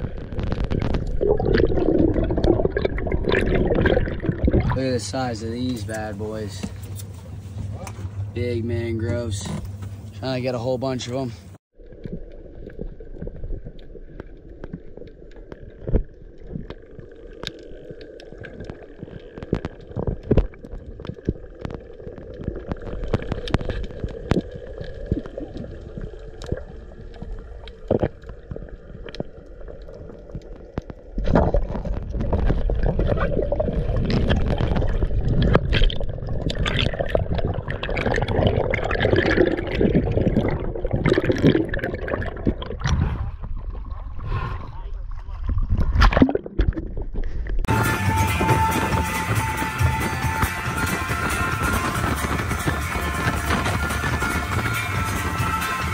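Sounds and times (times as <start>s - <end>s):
rush of water and bubbles: 0.0s - 6.6s, 11.1s - 55.9s
underwater clicks and crackles: 0.0s - 8.2s, 9.0s - 55.9s.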